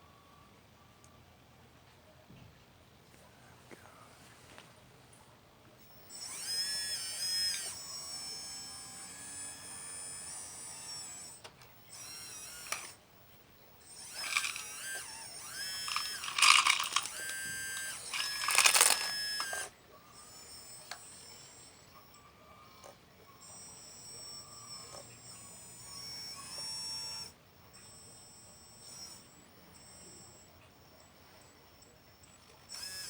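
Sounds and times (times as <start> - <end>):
small electric motors whining: 5.8 - 33.0.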